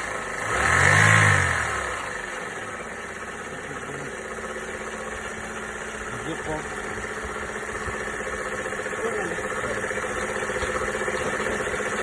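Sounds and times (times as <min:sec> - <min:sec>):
car engine revving and idling: 0:00.0 - 0:12.0
engine knocking and rattling: 0:00.0 - 0:12.0.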